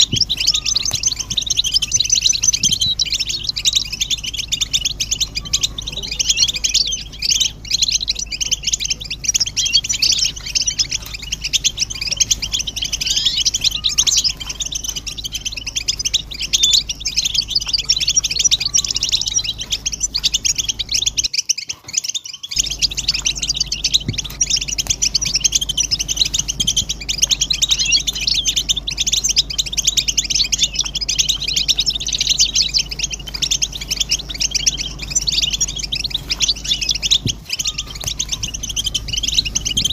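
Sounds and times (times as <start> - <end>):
low steady hum: 0.0 - 21.3, 22.6 - 39.9
birds twittering and calling: 0.0 - 39.9.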